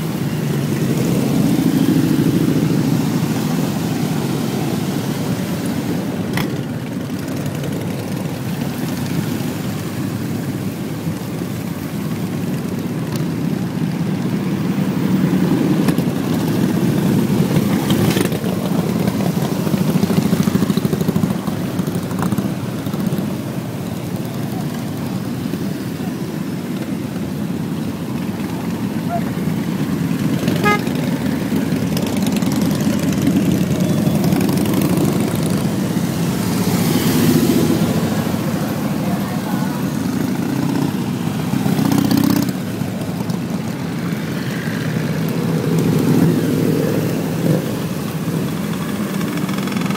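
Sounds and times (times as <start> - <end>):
low road rumble: 0.0 - 49.9.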